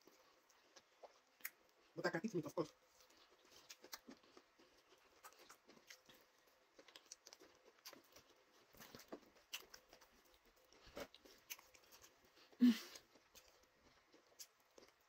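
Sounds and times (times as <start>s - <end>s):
wet clicks and smacks of eating: 0.0s - 1.9s, 2.6s - 15.0s.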